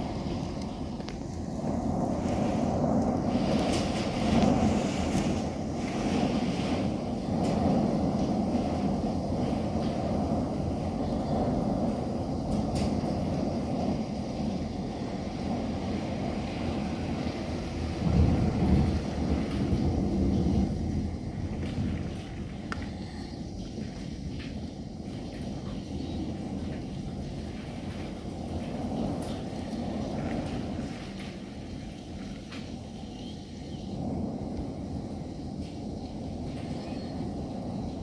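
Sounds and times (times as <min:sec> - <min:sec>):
storm wind buffeting microphone: 0:00.0 - 0:38.0.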